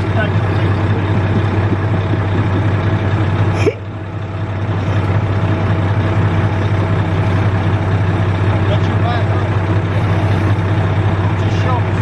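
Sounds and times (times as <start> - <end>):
heavy equipment engine running: 0.0 - 12.0.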